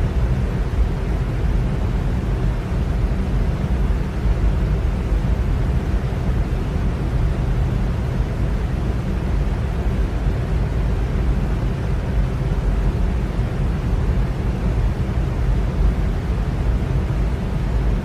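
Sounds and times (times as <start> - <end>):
electric fan running: 0.0 - 18.0.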